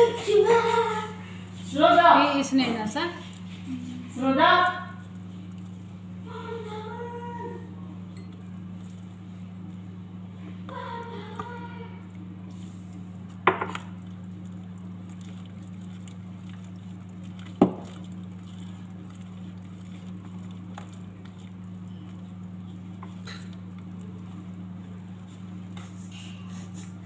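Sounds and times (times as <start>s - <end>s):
steady low hum: 0.0s - 27.0s
whisk stirring batter in a bowl: 0.0s - 27.0s.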